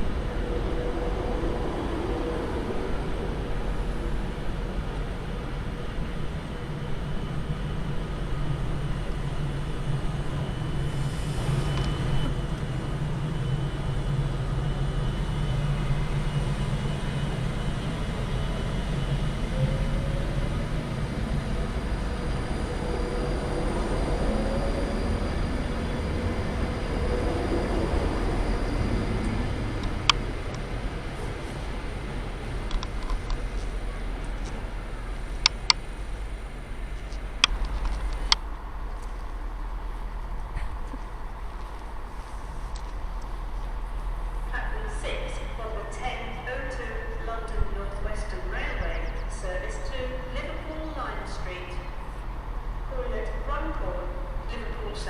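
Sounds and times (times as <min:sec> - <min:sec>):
faint whining tones: 0:00.0 - 0:55.0
train low drone: 0:00.0 - 0:55.0.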